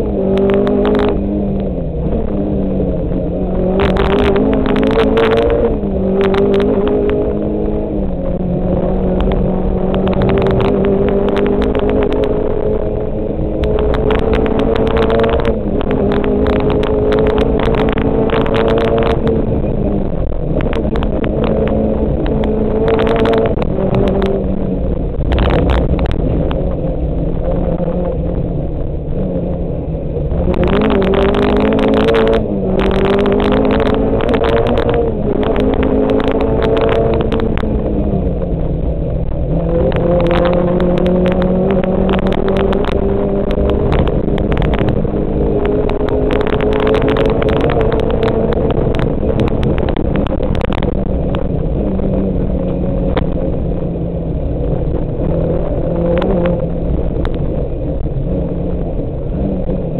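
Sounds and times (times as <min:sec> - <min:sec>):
car engine revving hard: 0:00.0 - 0:59.9
loud road noise: 0:00.0 - 0:59.9.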